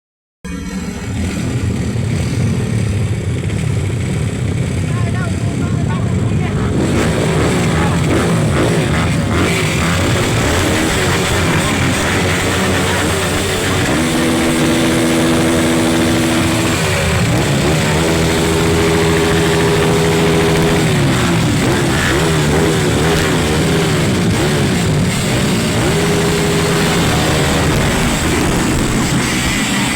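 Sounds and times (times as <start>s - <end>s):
dirt bike engine revving: 0.5s - 29.9s.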